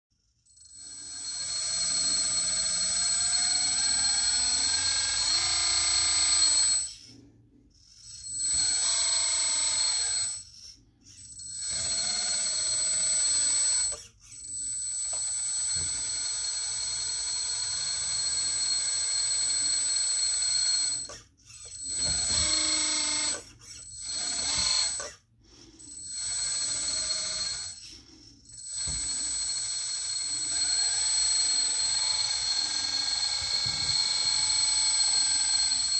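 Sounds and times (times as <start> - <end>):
hydraulic pump whining: 0.6 - 35.9.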